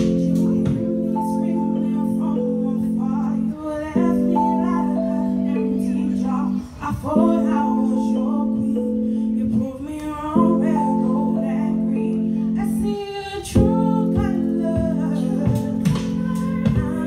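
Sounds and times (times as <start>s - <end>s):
woman singing into microphone: 0.0s - 17.0s.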